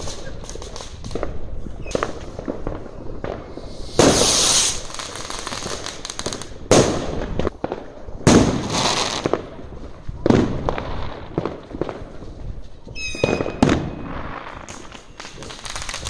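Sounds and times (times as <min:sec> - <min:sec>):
fireworks bangs with crackling: 0:00.0 - 0:16.0
small firework pops: 0:00.0 - 0:16.0.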